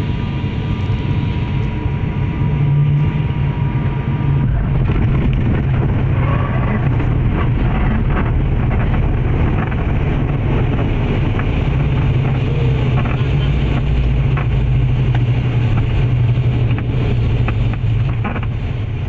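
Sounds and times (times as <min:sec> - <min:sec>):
turboprop engine drone in cabin: 0:00.0 - 0:19.0.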